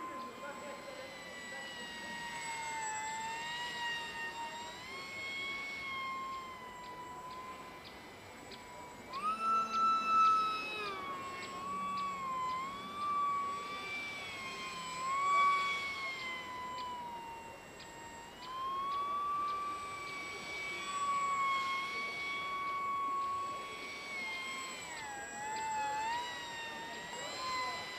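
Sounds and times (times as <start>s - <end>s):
electric motor whining: 0.0s - 27.9s.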